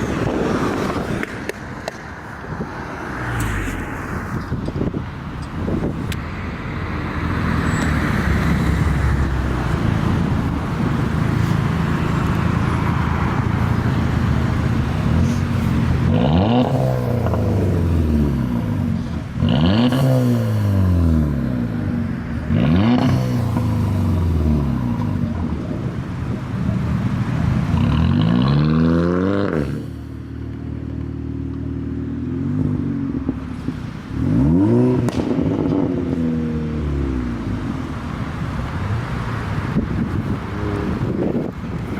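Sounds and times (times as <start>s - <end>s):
road noise: 0.0s - 41.9s
car engine revving: 5.6s - 30.1s, 31.7s - 41.9s.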